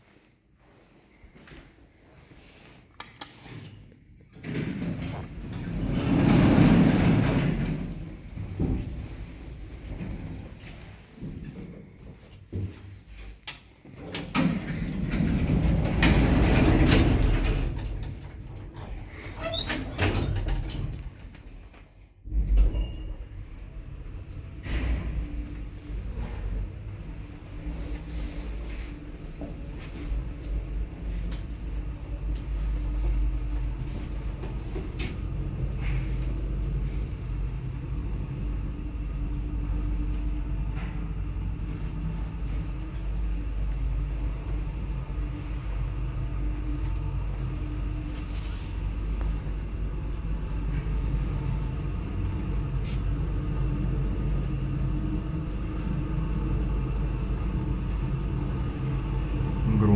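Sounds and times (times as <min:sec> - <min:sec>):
elevator running: 0:04.3 - 0:12.3, 0:14.0 - 0:59.9.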